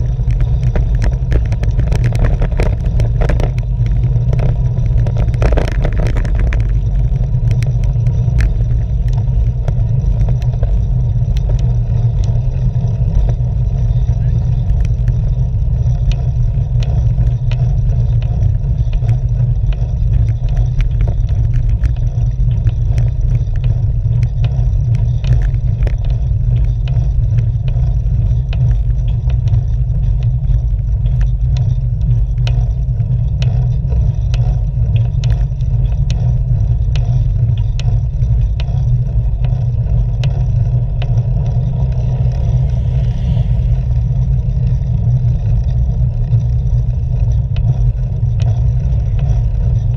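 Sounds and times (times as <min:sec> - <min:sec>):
road rumble: 0:00.0 - 0:49.9
wind buffeting: 0:00.0 - 0:49.9.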